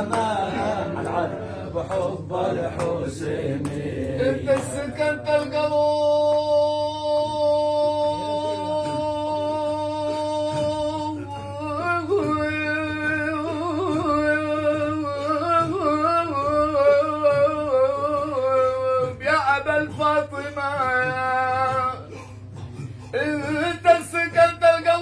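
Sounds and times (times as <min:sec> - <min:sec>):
man singing without words: 0:00.0 - 0:22.0, 0:23.2 - 0:25.0.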